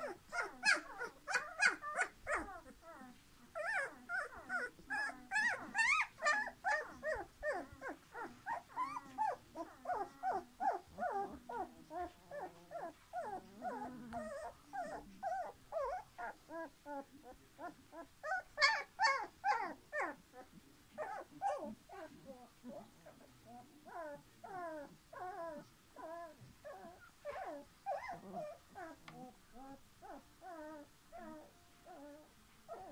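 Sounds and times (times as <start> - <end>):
puppies whimpering and squeaking: 0.0 - 22.5, 23.1 - 32.9.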